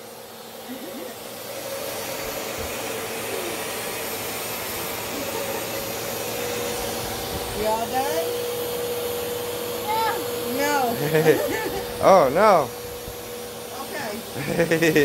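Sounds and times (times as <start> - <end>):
upright vacuum running: 0.0 - 15.0.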